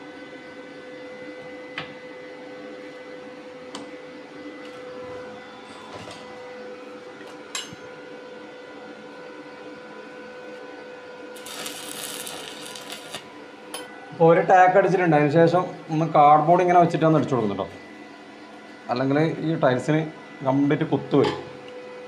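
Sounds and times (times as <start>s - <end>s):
welder electrical hum: 0.0s - 22.0s.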